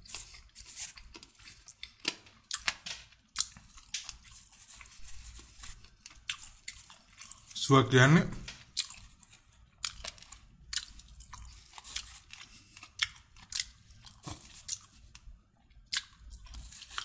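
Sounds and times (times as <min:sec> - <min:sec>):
person chewing food: 0:00.0 - 0:07.6, 0:08.5 - 0:17.0.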